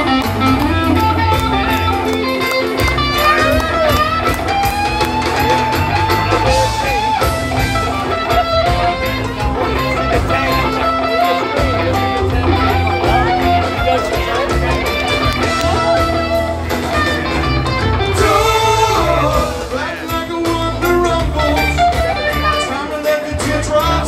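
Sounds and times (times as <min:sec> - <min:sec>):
bass: 0:00.0 - 0:24.0
drums: 0:00.0 - 0:24.0
lead electric guitar melody: 0:00.0 - 0:24.0.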